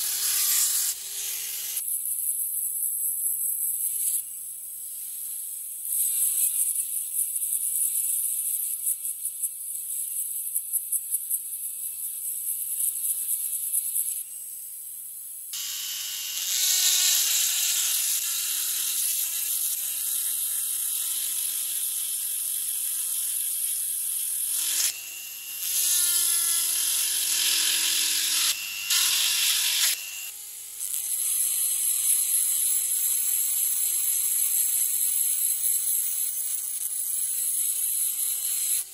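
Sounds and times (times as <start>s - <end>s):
rotary tool grinding steel: 0.0s - 14.7s, 15.5s - 38.9s.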